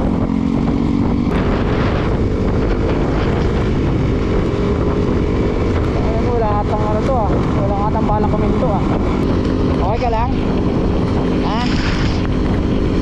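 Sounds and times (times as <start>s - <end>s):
motorcycle engine hum: 0.0s - 13.0s
wind rush on microphone: 0.0s - 13.0s.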